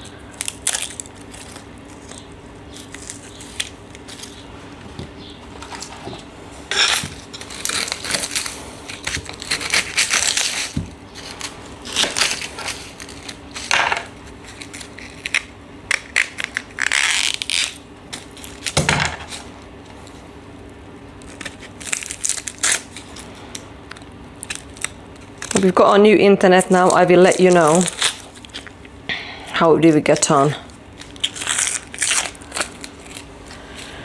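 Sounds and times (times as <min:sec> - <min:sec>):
onion skins crackling: 0:00.0 - 0:34.0.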